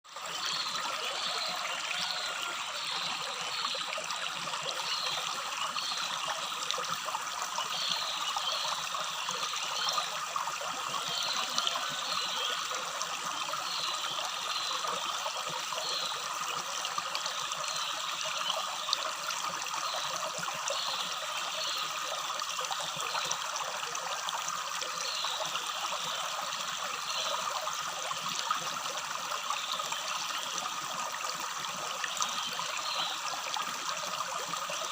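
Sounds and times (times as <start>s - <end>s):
stream babbling: 0.1s - 34.9s.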